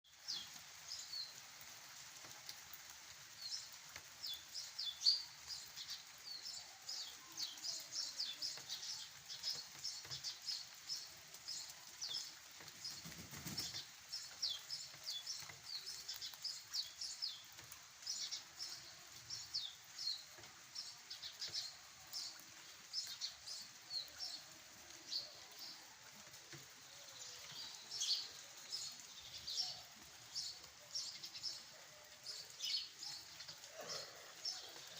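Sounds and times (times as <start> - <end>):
rain hissing: 0.0 - 34.9
birds chirping rapidly: 3.4 - 34.9.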